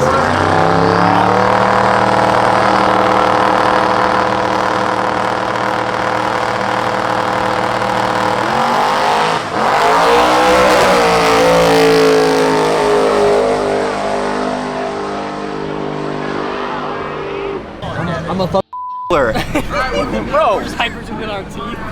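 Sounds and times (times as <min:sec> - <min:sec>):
drag race cars accelerating: 0:00.0 - 0:18.6.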